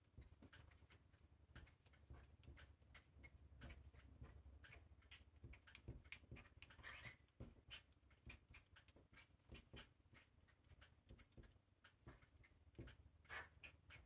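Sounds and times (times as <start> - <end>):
marker scratching on paper: 0.1 - 14.0.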